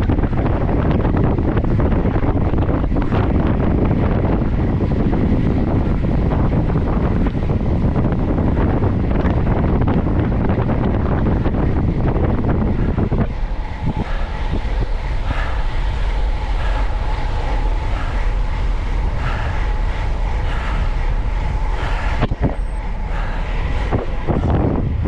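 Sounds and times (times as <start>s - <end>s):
faint steady whine: 0.0s - 25.0s
wind buffeting microphone: 0.0s - 25.0s.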